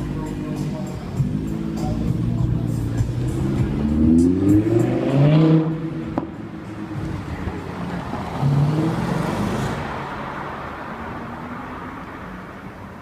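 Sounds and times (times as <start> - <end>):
car engine pulling away: 0.0 - 12.1.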